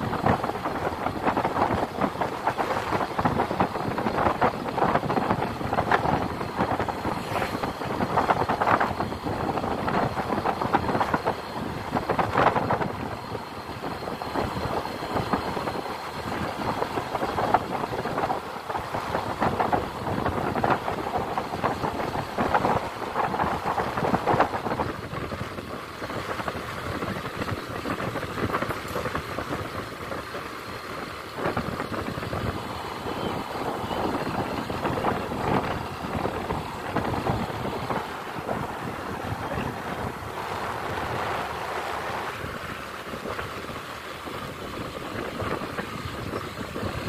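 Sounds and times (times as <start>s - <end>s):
road noise: 0.0s - 47.0s
wind buffeting microphone: 0.0s - 47.0s.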